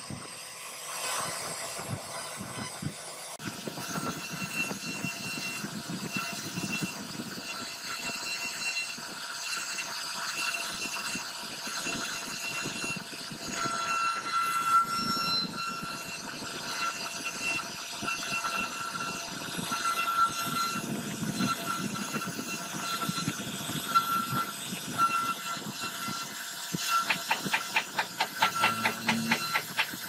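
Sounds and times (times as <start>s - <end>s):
router spindle high whine: 0.0s - 30.0s.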